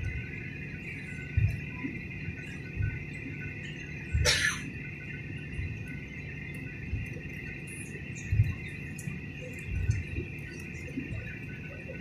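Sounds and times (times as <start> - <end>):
jet engines idling whine: 0.0 - 12.0.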